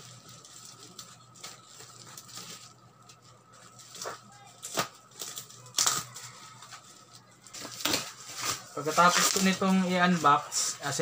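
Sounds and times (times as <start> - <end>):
bubble wrap rustling and crinkling: 0.0 - 11.0.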